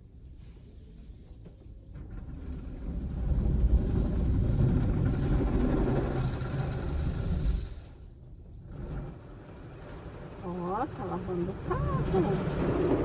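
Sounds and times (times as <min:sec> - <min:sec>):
car wash machine rushing water: 0:02.2 - 0:13.0.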